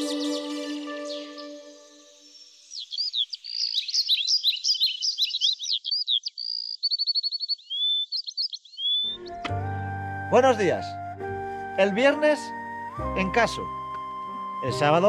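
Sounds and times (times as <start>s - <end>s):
songbird chirps and whistles: 0.0s - 15.0s.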